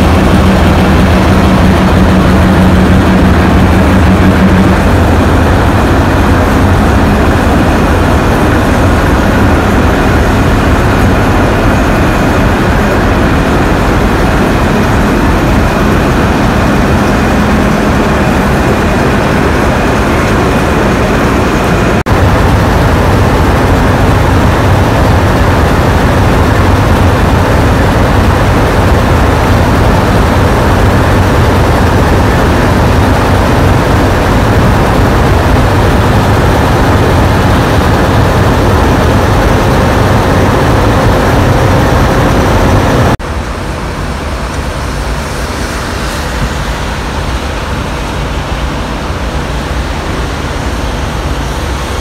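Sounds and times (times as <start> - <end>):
diesel locomotive engines droning: 0.0 - 52.0.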